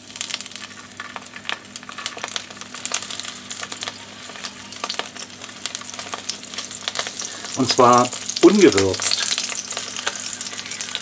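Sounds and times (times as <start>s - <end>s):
prawn sizzling in hot oil: 0.0s - 11.0s.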